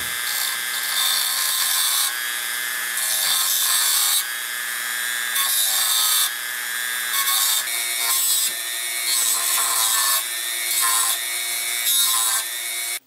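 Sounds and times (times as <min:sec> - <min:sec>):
cut-off wheel grinding metal: 0:00.0 - 0:13.0
rotary tool motor whine: 0:00.0 - 0:13.0.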